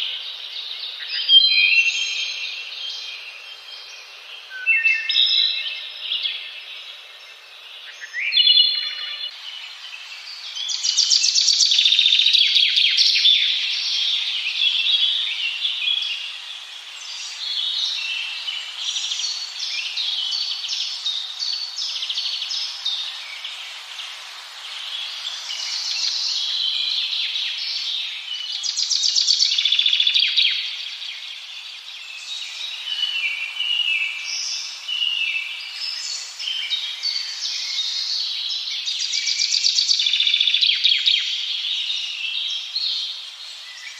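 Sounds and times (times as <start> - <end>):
birds chirping and singing: 0.0 - 24.1, 24.7 - 43.9.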